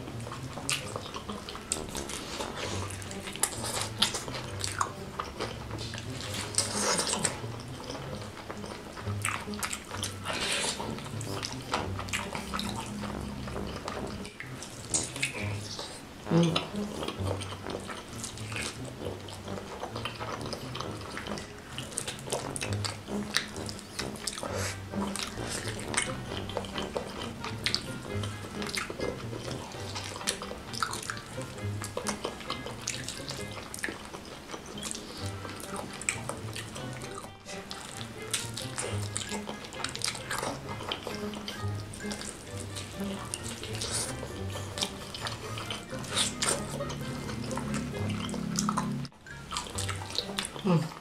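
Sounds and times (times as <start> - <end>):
background music with bass line: 0.0 - 51.0
wet chewing of fried chicken: 0.0 - 51.0.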